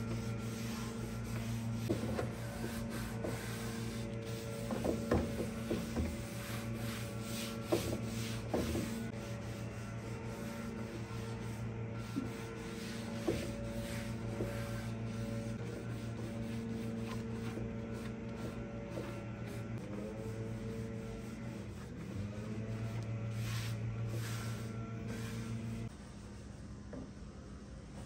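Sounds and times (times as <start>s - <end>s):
cloth rag wiping wood: 0.0s - 25.9s
steady low hum: 0.0s - 28.0s.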